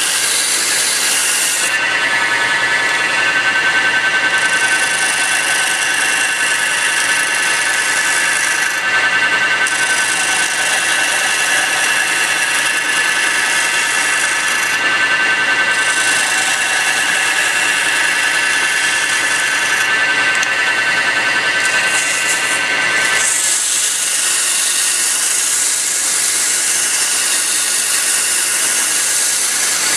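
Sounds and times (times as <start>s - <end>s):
chisel scraping spinning wood: 0.0s - 29.9s
wood lathe whining: 0.0s - 29.9s.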